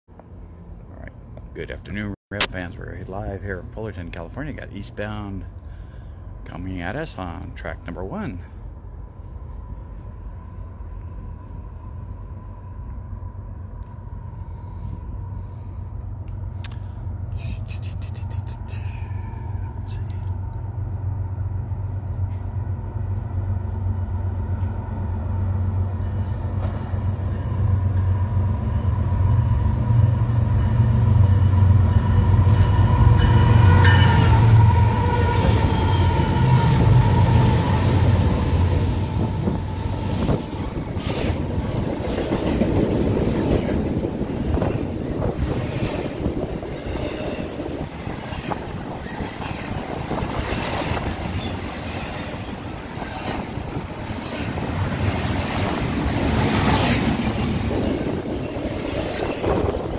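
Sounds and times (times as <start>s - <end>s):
locomotive rumble: 0.9s - 59.9s.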